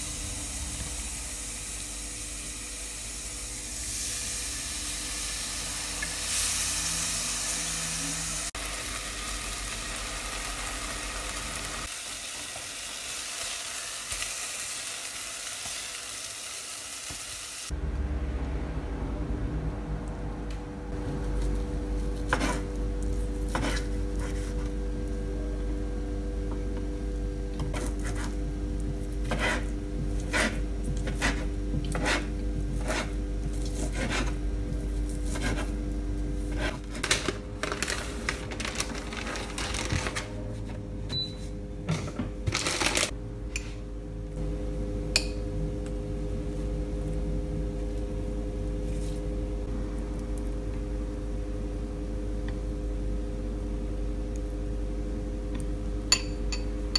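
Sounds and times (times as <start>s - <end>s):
mechanical hum: 0.0s - 56.9s.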